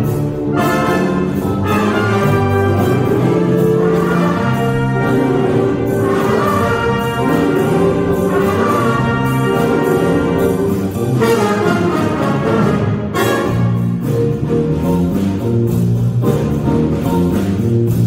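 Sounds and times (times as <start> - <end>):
jazz big band playing funk: 0.0 - 18.0.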